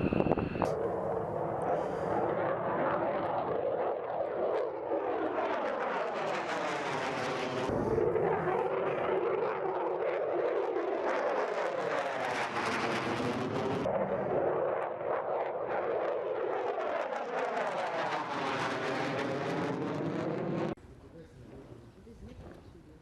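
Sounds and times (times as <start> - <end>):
jet engines passing: 0.0 - 20.8.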